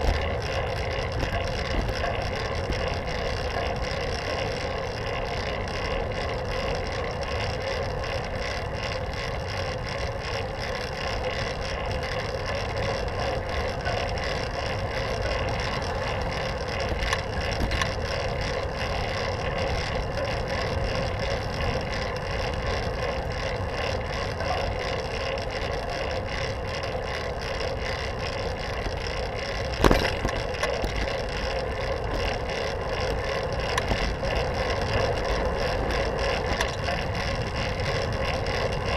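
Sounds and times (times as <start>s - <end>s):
bicycle rolling on pavement: 0.0s - 38.9s.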